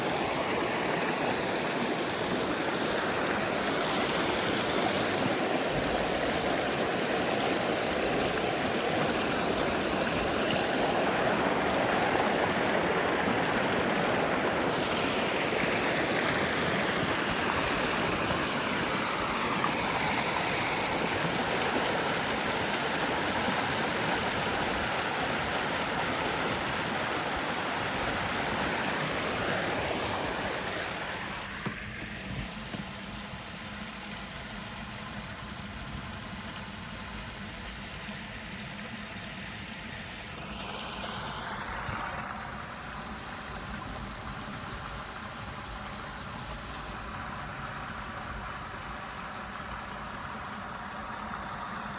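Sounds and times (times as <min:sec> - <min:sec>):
rainwater runoff rushing: 0:00.0 - 0:51.9.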